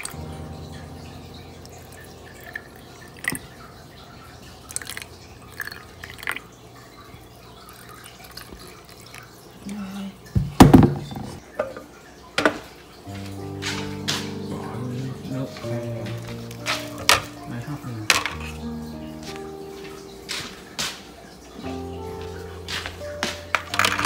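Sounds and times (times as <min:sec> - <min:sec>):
water dripping: 0:00.0 - 0:24.0
water pouring and trickling: 0:00.0 - 0:24.0.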